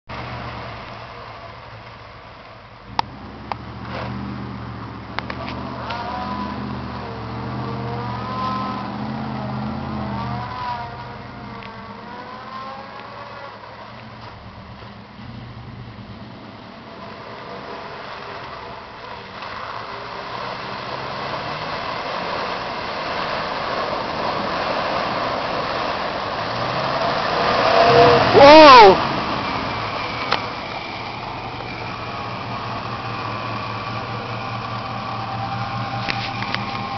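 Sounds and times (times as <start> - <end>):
truck engine revving: 0.1 - 36.9
truck splashing through puddle: 0.1 - 36.9.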